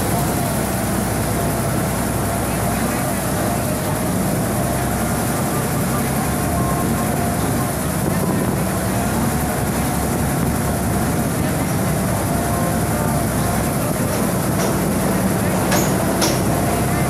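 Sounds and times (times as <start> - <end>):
boat engine running: 0.0 - 17.0
water noise: 0.0 - 17.0.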